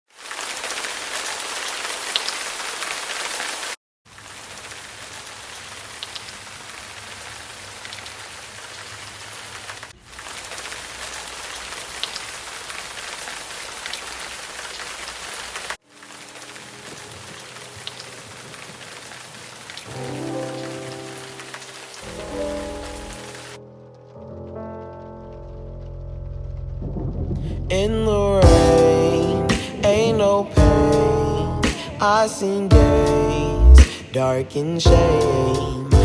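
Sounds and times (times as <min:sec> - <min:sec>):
steady rain hiss: 0:00.2 - 0:36.0.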